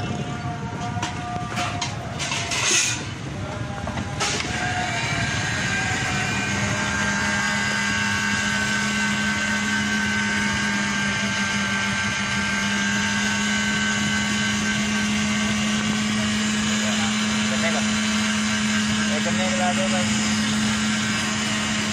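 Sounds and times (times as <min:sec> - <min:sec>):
electric blender running: 0:04.2 - 0:21.9.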